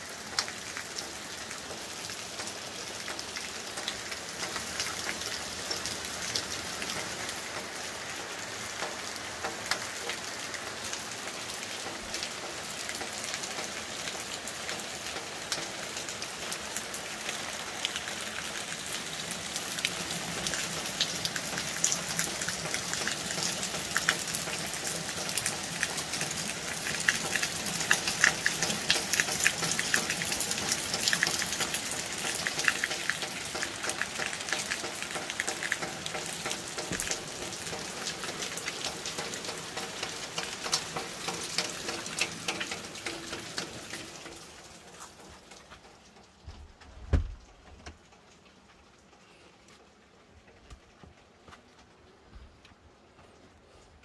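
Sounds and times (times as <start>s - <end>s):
rain on paving and puddles: 0.0s - 54.0s
raindrops ticking nearby: 0.0s - 54.0s.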